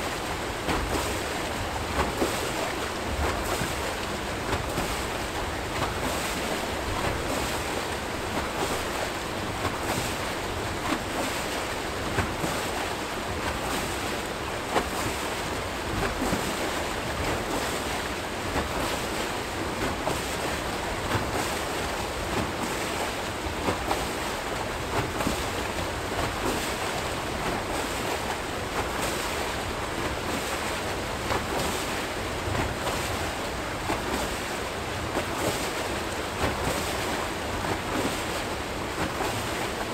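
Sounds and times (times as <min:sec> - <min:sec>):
rushing churning water: 0:00.0 - 0:39.9.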